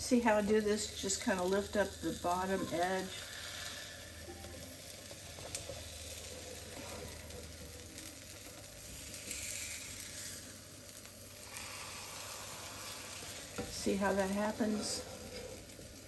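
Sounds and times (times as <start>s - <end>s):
omelette sizzling in a pan: 0.0s - 16.0s.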